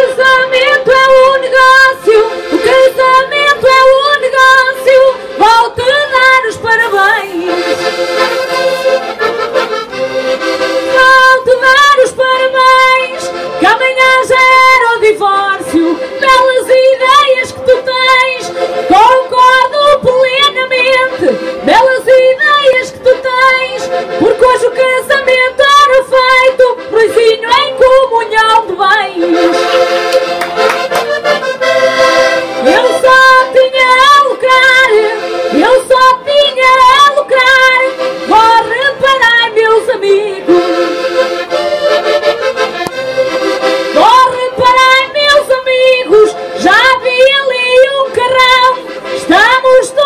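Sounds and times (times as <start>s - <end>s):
button accordion playing lively tune: 0.0s - 50.0s.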